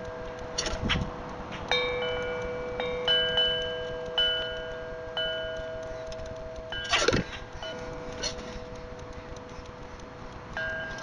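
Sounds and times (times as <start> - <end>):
wind chimes ringing: 0.0 - 11.0.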